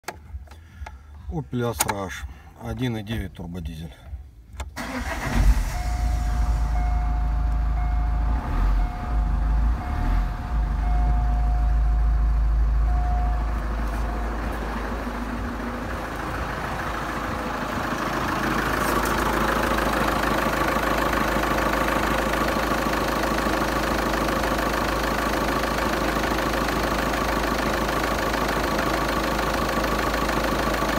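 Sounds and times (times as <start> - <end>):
diesel engine idling: 4.1 - 30.9.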